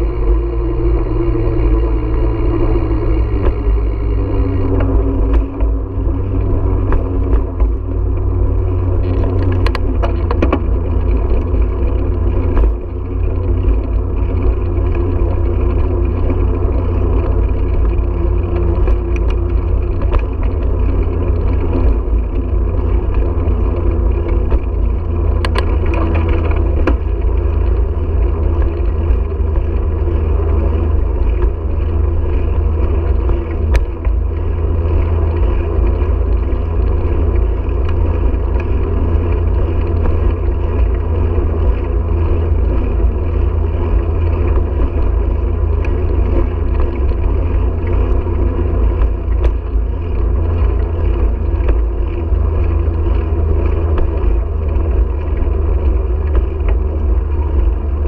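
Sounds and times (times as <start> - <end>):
tyres rolling over pavement: 0.0 - 58.0
wind rumbling on microphone: 0.0 - 58.0.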